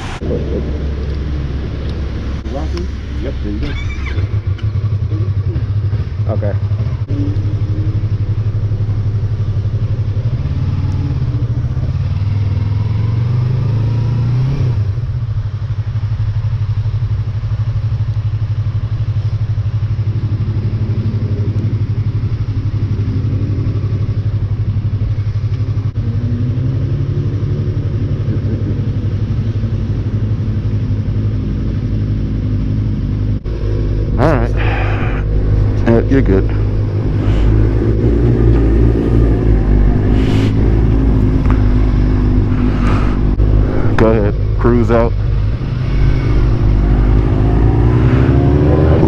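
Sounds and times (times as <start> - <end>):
motorcycle engine idling: 0.4 - 12.8, 14.9 - 26.3, 27.2 - 46.2.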